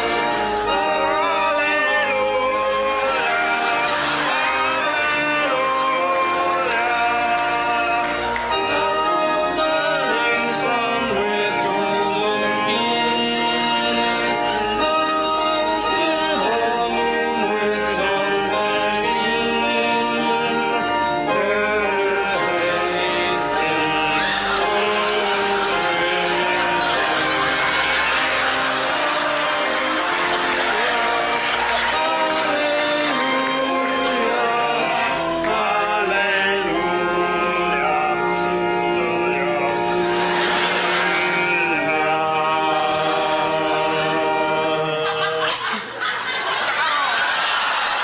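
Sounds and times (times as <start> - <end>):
person singing: 0.0 - 46.0
held instrumental notes: 0.0 - 46.6.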